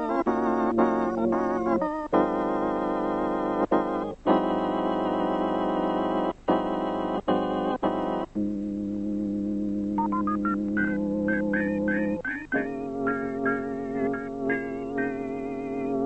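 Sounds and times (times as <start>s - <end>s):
organ chords: 0.0s - 16.0s.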